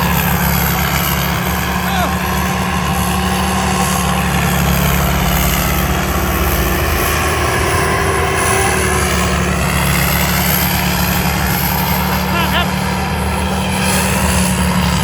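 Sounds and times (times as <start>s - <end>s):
harvester diesel engine running: 0.0s - 15.0s.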